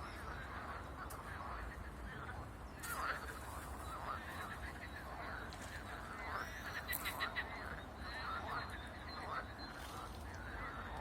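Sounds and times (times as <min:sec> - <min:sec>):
frogs croaking: 0:00.0 - 0:11.0.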